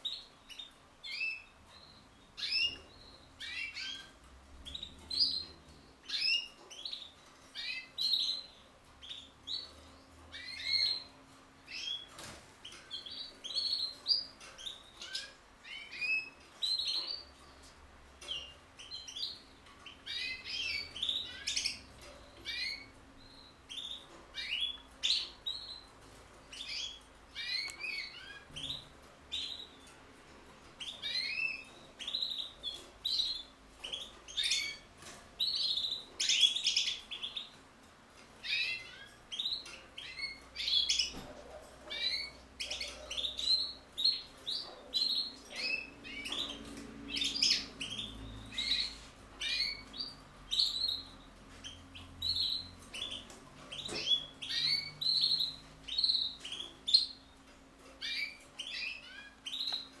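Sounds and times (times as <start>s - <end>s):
bird twittering and trilling: 0.0s - 30.0s, 30.7s - 60.0s.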